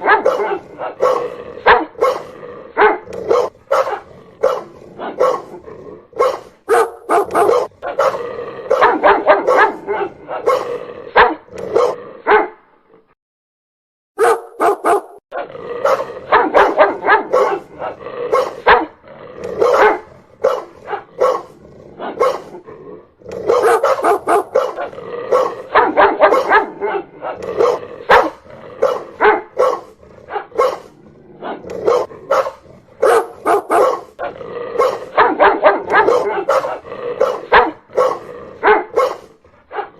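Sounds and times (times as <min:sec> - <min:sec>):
dog barking loudly: 0:00.0 - 0:12.6, 0:14.2 - 0:22.6, 0:23.3 - 0:39.9.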